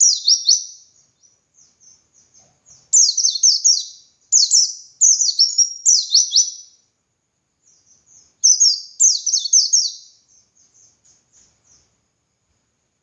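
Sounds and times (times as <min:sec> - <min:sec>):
soft bird twittering: 0:00.0 - 0:06.9, 0:07.6 - 0:12.0.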